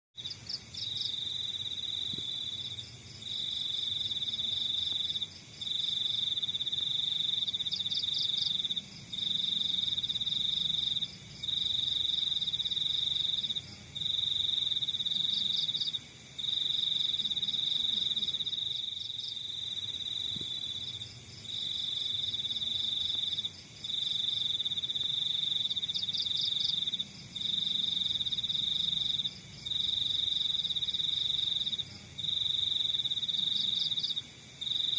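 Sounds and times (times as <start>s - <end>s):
faint rapid insect chirps: 0.2s - 34.9s.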